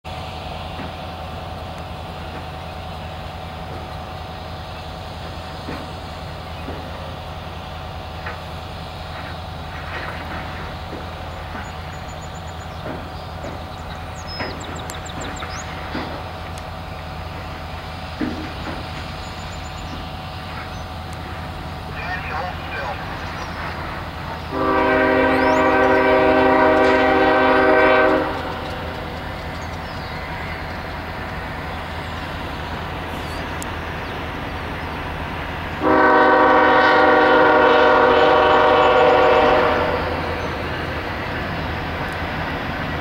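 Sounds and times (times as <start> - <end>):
low diesel engine drone: 0.0 - 43.0
clanks from rolling rail cars: 0.1 - 43.0.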